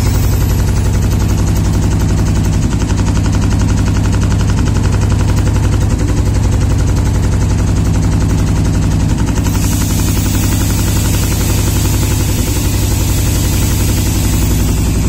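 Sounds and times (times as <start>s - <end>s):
punching machine rapid knocks: 0.0s - 15.0s
steady low hum: 0.0s - 15.0s.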